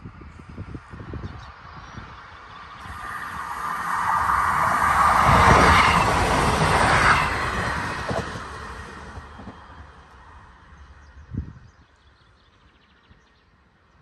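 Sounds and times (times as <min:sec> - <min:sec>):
train engine and wheel rumble: 0:00.0 - 0:14.0.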